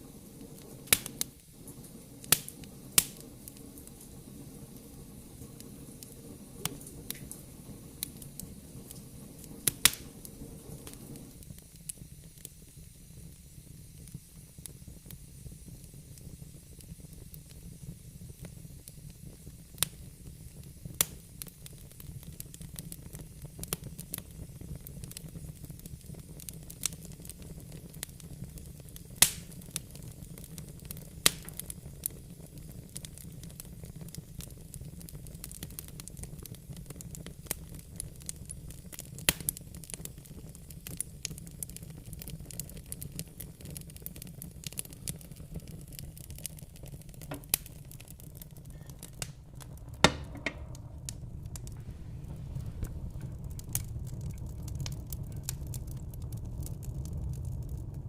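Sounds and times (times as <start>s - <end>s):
fire crackling in fireplace: 0.0s - 58.0s
sharp pops from fire: 0.0s - 58.0s.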